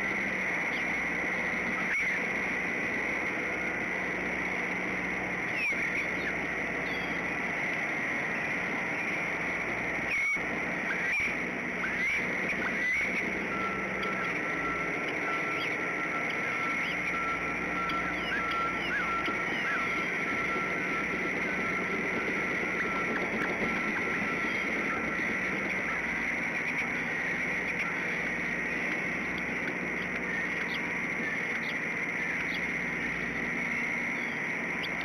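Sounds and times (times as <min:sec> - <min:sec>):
steady outdoor hiss: 0:00.0 - 0:35.0.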